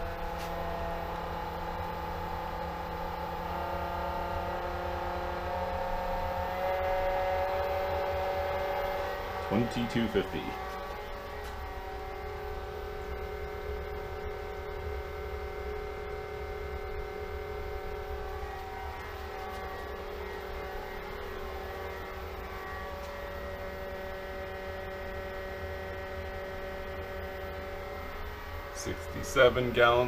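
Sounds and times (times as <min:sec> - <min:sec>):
pool pump whining: 0:00.0 - 0:30.0.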